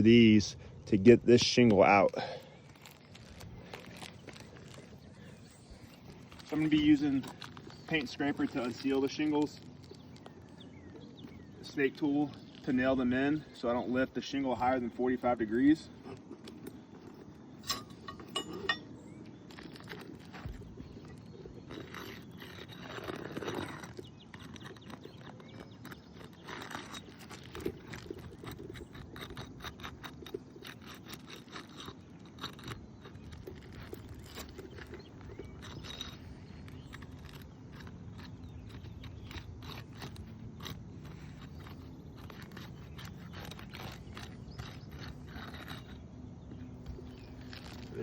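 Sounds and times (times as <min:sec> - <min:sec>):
paint scraper crackling under shingles: 0:00.8 - 0:48.0.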